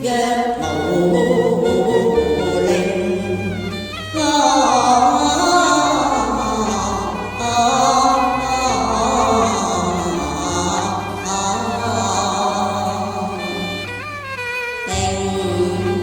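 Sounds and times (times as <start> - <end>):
sliding melody line: 0.1 - 16.0
steady bass: 0.6 - 16.0.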